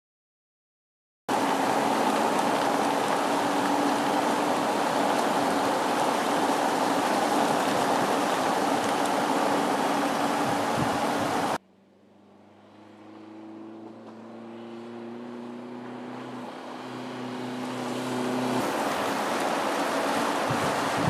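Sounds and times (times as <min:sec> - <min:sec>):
rushing wind and road noise: 0:01.3 - 0:11.6, 0:12.7 - 0:21.0
engine hum: 0:01.3 - 0:21.0.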